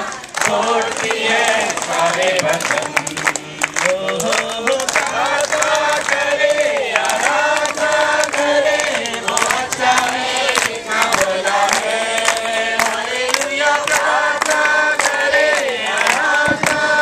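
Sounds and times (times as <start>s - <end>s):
congregation singing: 0.0s - 17.0s
man leading singing: 0.0s - 17.0s.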